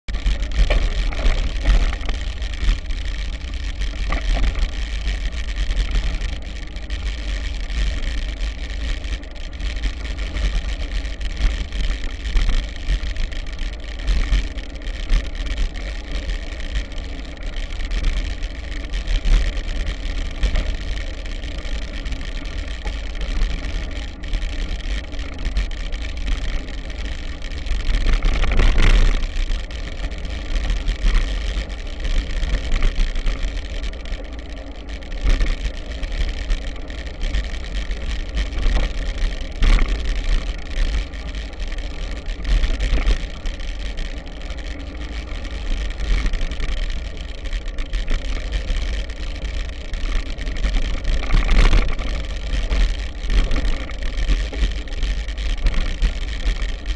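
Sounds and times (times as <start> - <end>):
bicycle tyres crunching on gravel: 0.1 - 56.9.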